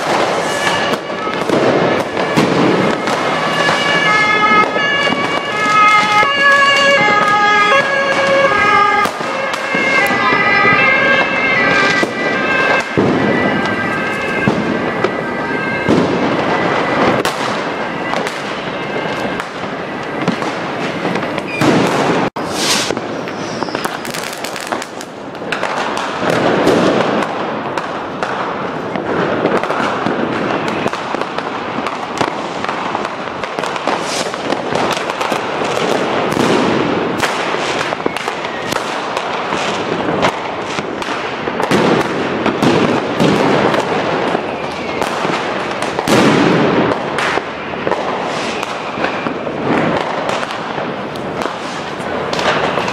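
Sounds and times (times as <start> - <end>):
firework whistle: 0.0 - 27.2, 28.9 - 52.9
fireworks and firecrackers banging: 0.0 - 52.9.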